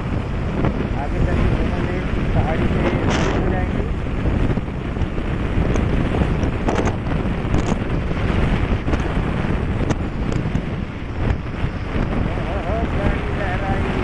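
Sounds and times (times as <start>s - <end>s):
motorcycle road noise: 0.0s - 14.0s
wind buffeting microphone: 0.0s - 14.0s.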